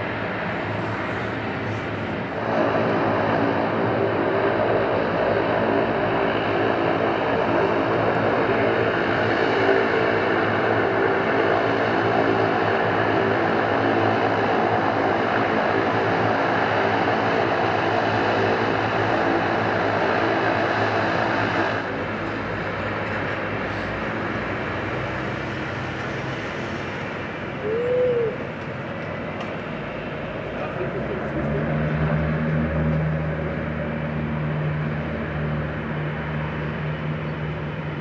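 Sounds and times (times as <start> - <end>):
turboprop engines droning: 0.0 - 38.0.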